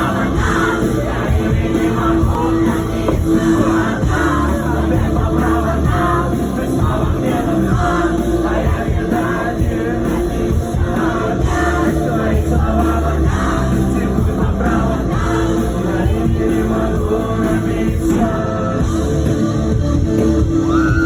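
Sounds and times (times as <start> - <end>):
live rock music: 0.0 - 21.0.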